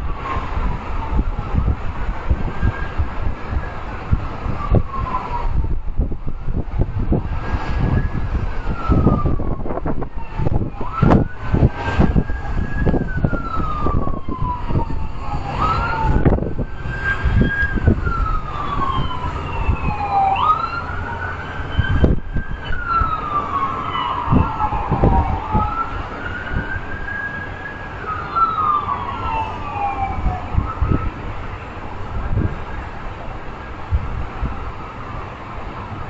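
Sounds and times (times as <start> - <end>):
emergency siren wailing: 0.0 - 36.0.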